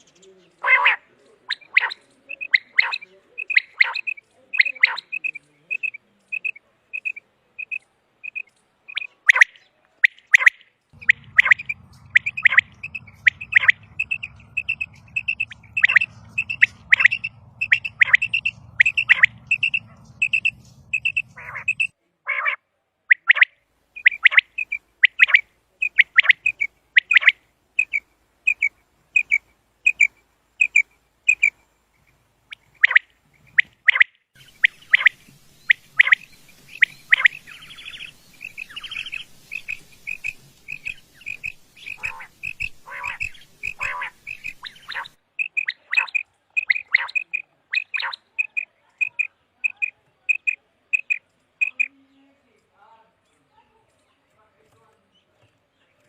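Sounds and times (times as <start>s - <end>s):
quail calling: 0.6s - 31.6s, 32.5s - 51.9s.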